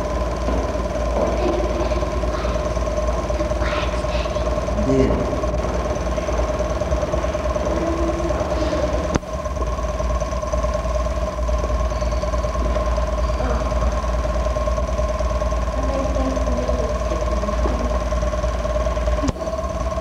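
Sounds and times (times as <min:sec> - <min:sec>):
constant hum: 0:00.0 - 0:20.0
film projector whirring: 0:00.0 - 0:20.0.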